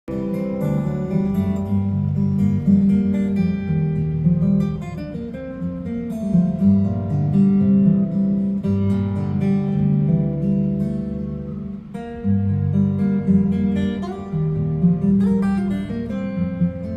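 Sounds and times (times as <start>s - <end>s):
acoustic guitar music: 0.0s - 16.9s.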